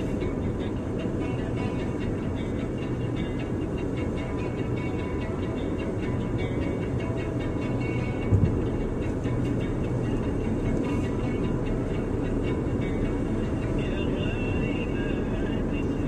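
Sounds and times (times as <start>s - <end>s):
road and engine noise in cabin: 0.0s - 16.0s.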